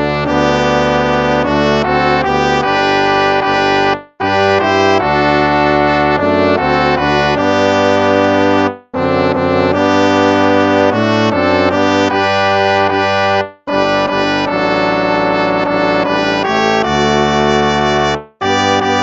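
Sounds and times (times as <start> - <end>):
brass-like hymn music: 0.0 - 19.0.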